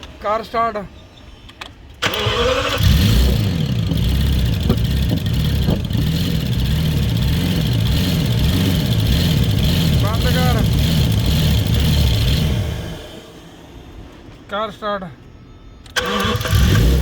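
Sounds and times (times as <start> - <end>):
engine cranking: 1.5 - 17.0
engine idling unevenly: 2.0 - 17.0.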